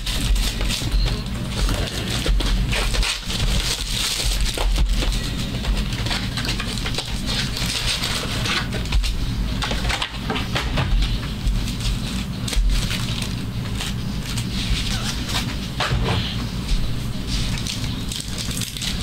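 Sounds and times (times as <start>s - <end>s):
foil packaging crinkling: 0.0s - 19.0s.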